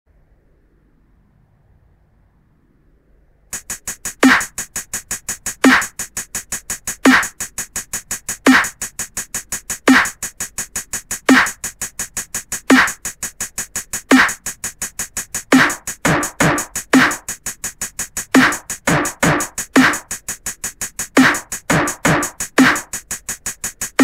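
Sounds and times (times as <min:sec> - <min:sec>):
fast hi-hat ticks: 0:03.5 - 0:24.0
distorted drum machine beat: 0:03.6 - 0:24.0
heavy snare hit: 0:03.6 - 0:24.0.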